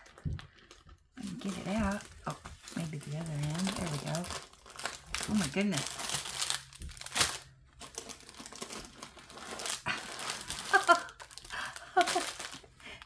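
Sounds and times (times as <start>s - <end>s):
plastic packets crinkling: 0.0s - 13.0s.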